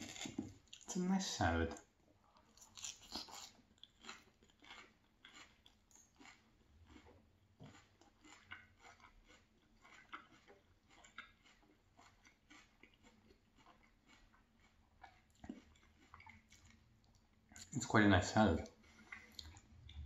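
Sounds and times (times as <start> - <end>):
crisp chewing of raw salad: 0.0 - 1.0, 1.6 - 17.8, 18.4 - 20.0.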